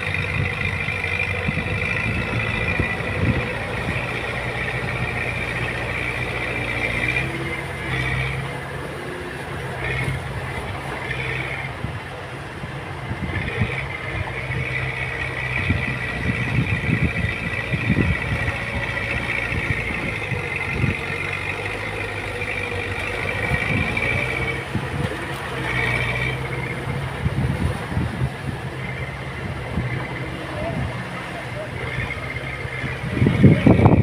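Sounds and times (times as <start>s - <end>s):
diesel machinery drone: 0.0s - 34.0s.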